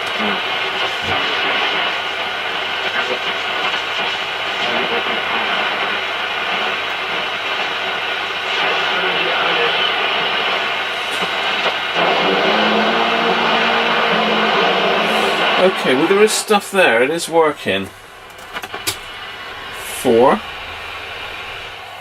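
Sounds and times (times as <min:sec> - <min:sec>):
radio static and hiss: 0:00.0 - 0:22.0.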